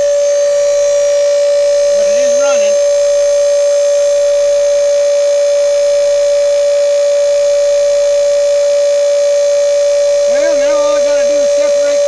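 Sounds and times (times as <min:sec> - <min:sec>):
power inverter whining: 0:00.0 - 0:12.0.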